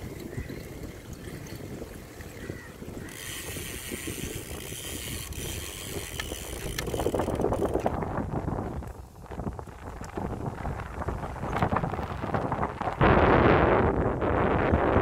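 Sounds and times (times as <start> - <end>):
bicycle tyres rolling on pavement: 0.0 - 15.0
wind buffeting microphone: 0.0 - 15.0.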